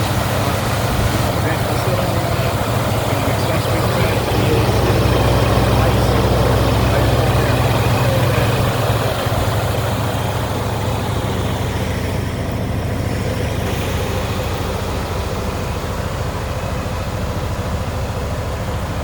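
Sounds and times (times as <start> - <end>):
vee eight engine idling: 0.0 - 19.0.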